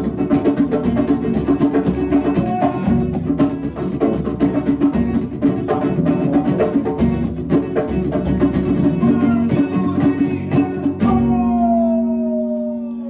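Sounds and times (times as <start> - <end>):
live guitar and drums: 0.0 - 13.0.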